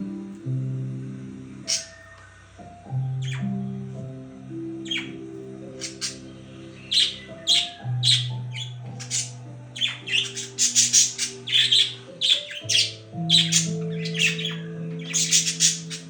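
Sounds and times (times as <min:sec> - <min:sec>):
background music with held notes: 0:00.0 - 0:16.0
budgerigars chirping and squawking: 0:01.6 - 0:04.1, 0:04.7 - 0:16.0.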